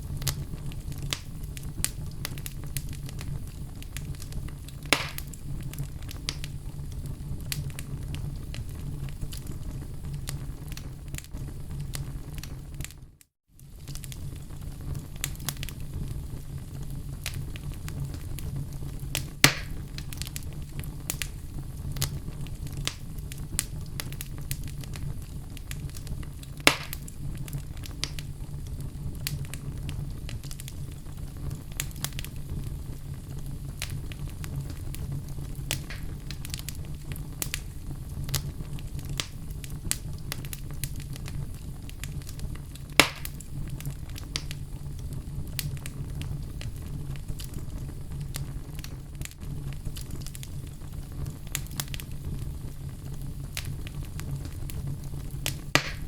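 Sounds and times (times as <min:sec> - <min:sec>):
fire crackling in fireplace: 0:00.0 - 0:56.0
loud fire pops: 0:00.0 - 0:56.0.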